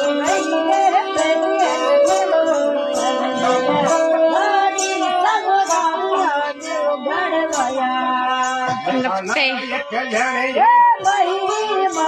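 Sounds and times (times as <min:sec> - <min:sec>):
high jingle: 0:00.0 - 0:12.0.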